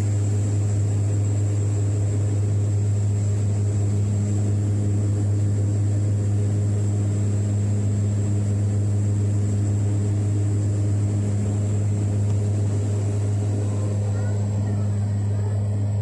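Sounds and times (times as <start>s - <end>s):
airliner cabin engine drone: 0.0s - 16.0s.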